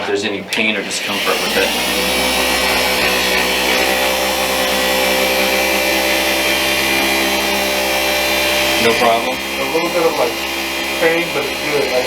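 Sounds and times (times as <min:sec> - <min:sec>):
electric massager motor hum: 0:01.0 - 0:12.0.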